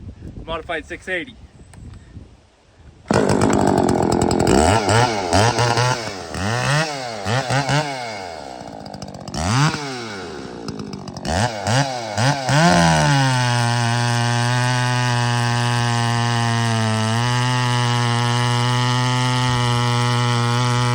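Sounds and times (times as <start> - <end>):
chainsaw revving: 3.1 - 20.9.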